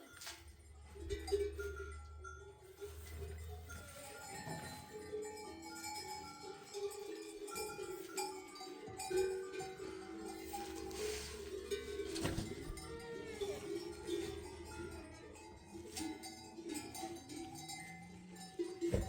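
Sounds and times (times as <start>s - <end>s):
livestock bells clinking: 0.0s - 19.0s.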